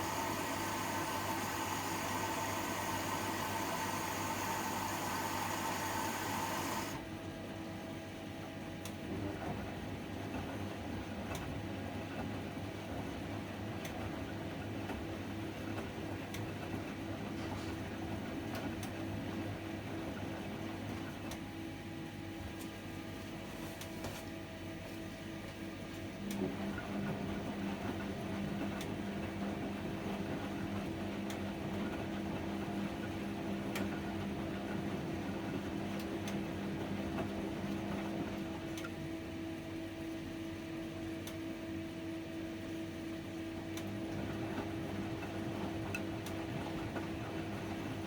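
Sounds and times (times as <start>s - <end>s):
washing machine humming: 0.0s - 48.0s.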